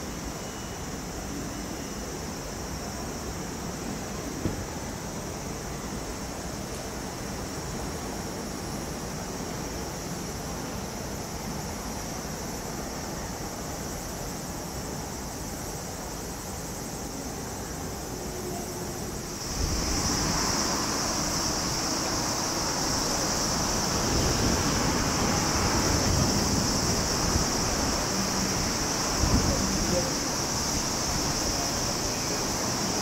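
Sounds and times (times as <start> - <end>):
station ambience with hiss: 0.0 - 33.0
distant freight train rumble: 0.1 - 33.0.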